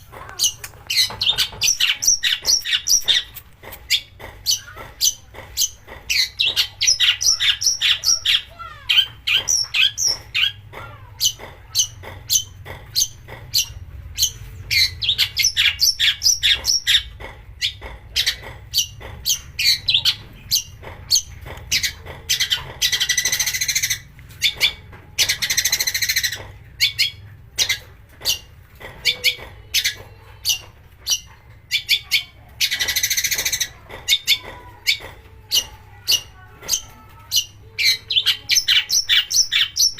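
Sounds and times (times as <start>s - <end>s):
harsh rasping bird calls: 0.0s - 39.9s
bird singing sharp chirps and clicks: 0.2s - 39.9s.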